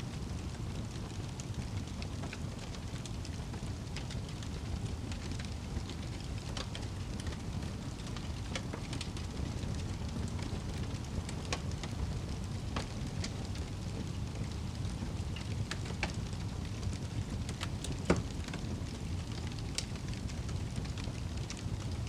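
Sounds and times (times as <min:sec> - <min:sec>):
burning logs crackling and popping: 0:00.0 - 0:22.0
fire flames rumbling: 0:00.0 - 0:22.0.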